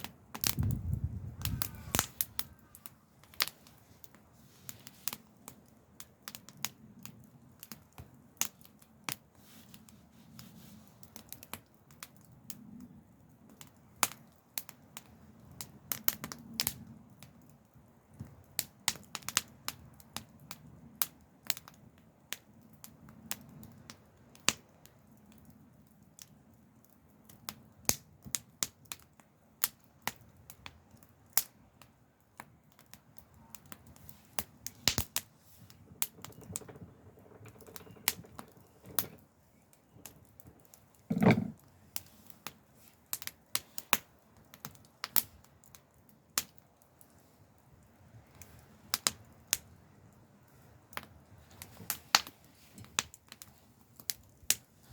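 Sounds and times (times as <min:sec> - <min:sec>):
soft low rush of fire: 0:00.0 - 0:54.9
wood crackling and popping: 0:00.0 - 0:54.9.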